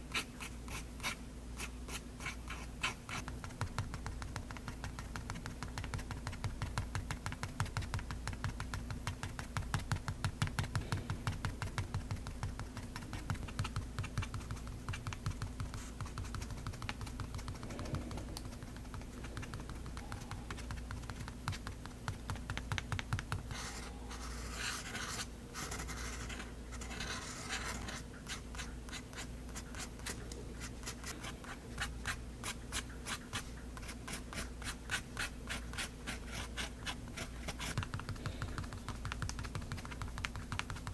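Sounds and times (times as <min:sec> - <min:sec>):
pen nib ticking and scratching paper: 0:00.1 - 0:40.9.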